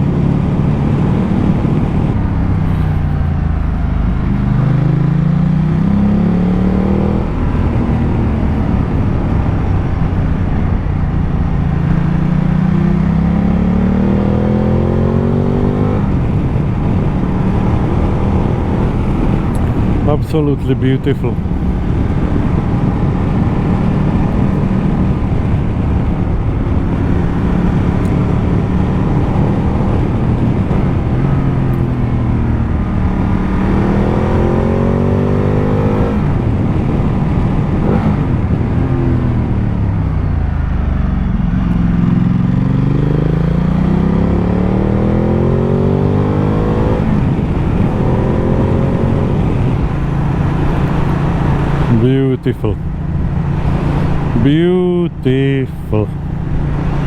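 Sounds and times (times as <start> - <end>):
motorcycle engine revving: 0.0 - 20.2, 21.2 - 54.6.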